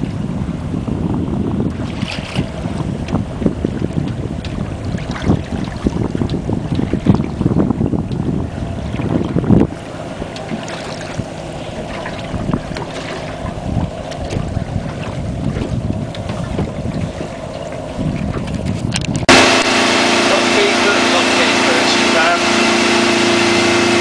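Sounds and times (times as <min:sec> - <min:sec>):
motorboat engine: 0:00.0 - 0:24.0
water noise: 0:00.0 - 0:24.0
wind buffeting microphone: 0:00.0 - 0:24.0.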